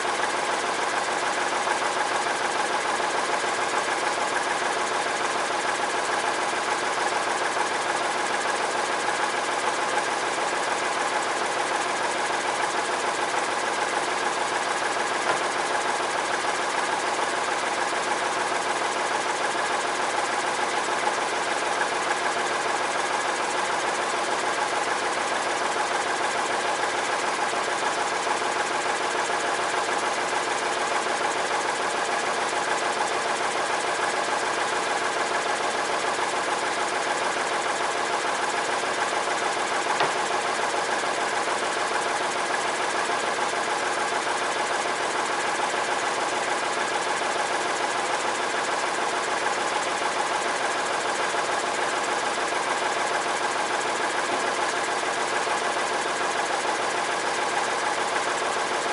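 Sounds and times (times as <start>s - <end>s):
sawmill engine running: 0.0s - 58.8s.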